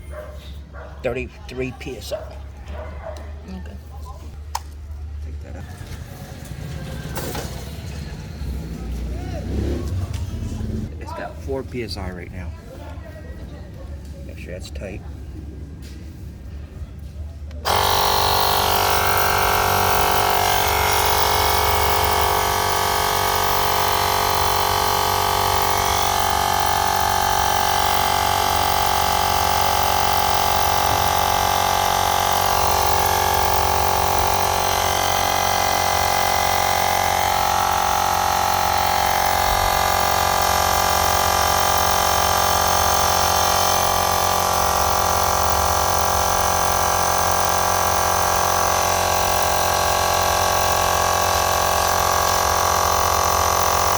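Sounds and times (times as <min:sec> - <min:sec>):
electric air compressor running: 0:00.7 - 0:03.6, 0:05.4 - 0:12.9, 0:14.3 - 0:15.0, 0:17.6 - 0:53.9.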